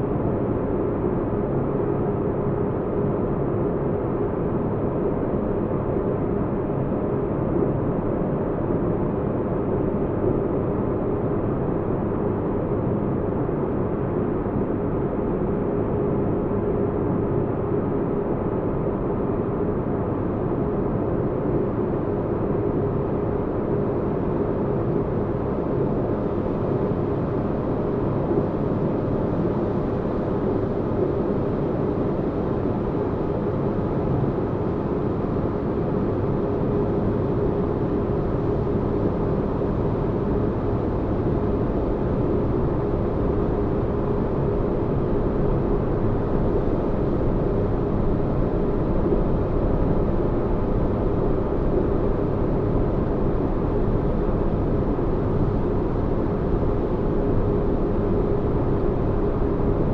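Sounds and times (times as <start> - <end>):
faint constant hum: 0.0 - 59.9.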